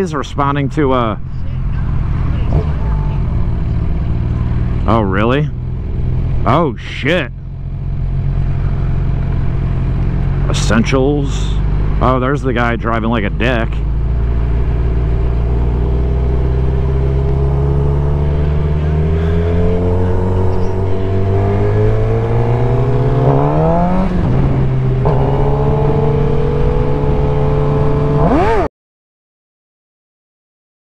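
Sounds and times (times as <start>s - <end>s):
motorcycle engine accelerating: 0.6s - 6.8s, 7.4s - 28.7s.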